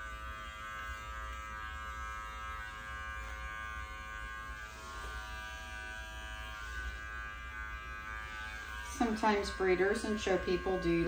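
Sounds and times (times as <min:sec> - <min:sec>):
electric clippers humming: 0:00.0 - 0:11.0.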